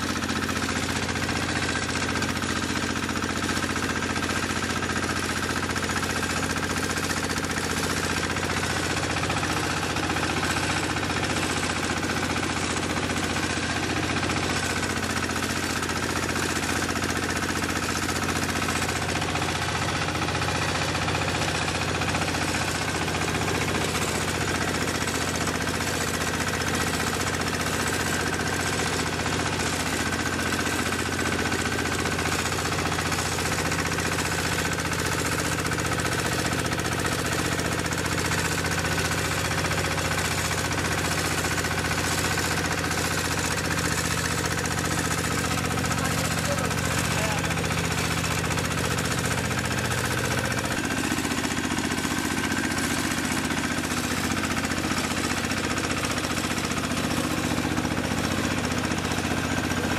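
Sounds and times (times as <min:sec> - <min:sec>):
rice milling machine running: 0:00.0 - 0:59.9
rice pouring from chute: 0:00.0 - 0:59.9.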